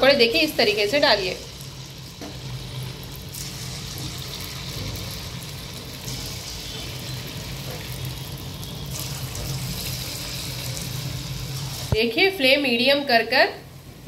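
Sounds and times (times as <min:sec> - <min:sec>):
batter frying in hot oil: 0:00.0 - 0:12.5.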